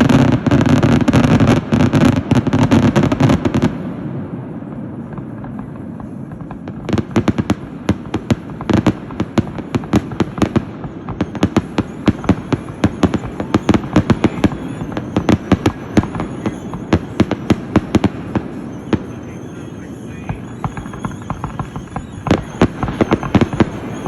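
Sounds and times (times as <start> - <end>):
fireworks rumble: 0.0 - 24.0
rapid fireworks bangs: 0.0 - 24.0.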